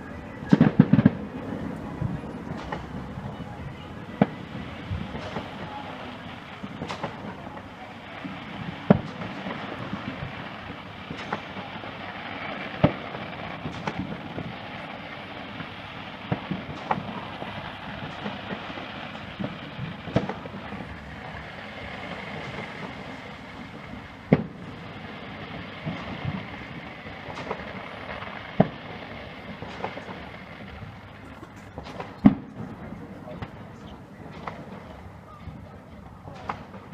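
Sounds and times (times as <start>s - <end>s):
fireworks shells bursting: 0.0s - 3.4s, 4.1s - 14.5s, 15.4s - 32.8s
crowd noise: 0.0s - 36.9s
fireworks crackle: 0.0s - 36.9s.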